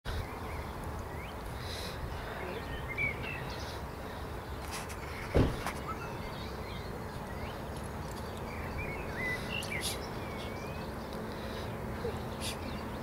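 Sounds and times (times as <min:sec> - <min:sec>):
low background noise: 0:00.1 - 0:13.0
small birds chirping: 0:00.1 - 0:13.0.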